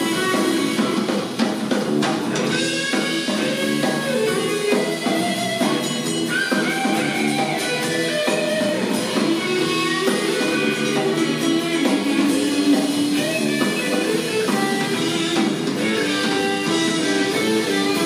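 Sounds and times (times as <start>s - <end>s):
drum kit: 0.0s - 18.0s
electric bass: 0.0s - 18.0s
electric guitar: 0.0s - 18.0s.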